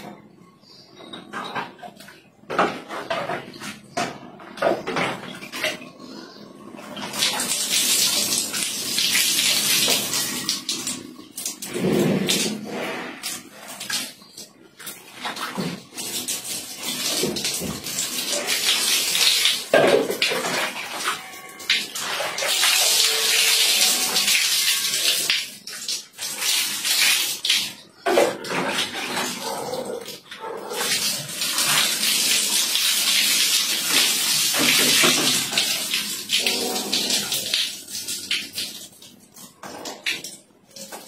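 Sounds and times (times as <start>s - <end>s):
water splashing on tiled floor: 7.0s - 41.0s.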